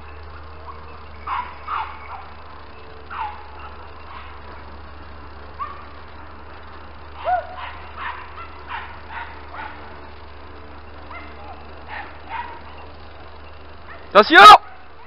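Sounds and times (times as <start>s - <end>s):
hunting dogs baying: 0.0s - 15.0s.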